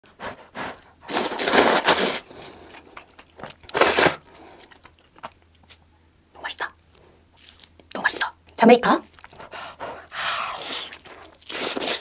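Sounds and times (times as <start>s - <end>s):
crackly eating sounds: 0.0s - 12.0s.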